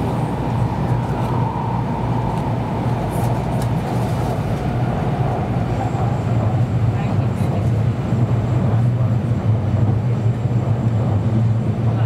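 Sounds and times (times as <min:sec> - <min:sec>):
train cabin hum: 0:00.0 - 0:12.0.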